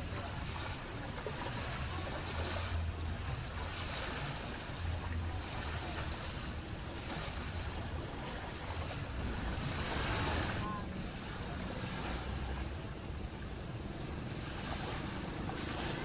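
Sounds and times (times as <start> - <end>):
sea water washing: 0.0 - 16.0
wind: 0.0 - 16.0.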